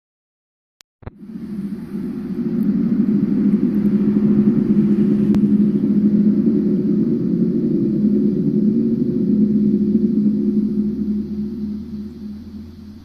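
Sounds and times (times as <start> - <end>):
low droning hum: 1.1 - 13.0.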